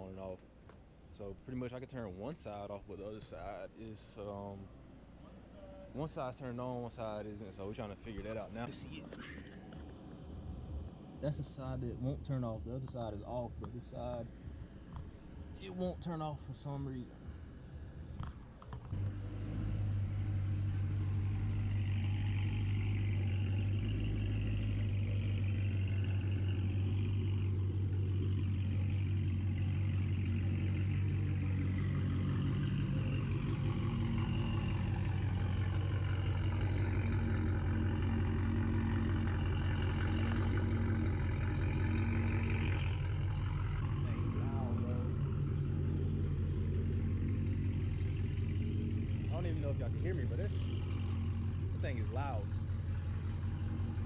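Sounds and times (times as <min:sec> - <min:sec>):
car engine starting and idling: 0:00.0 - 0:54.0.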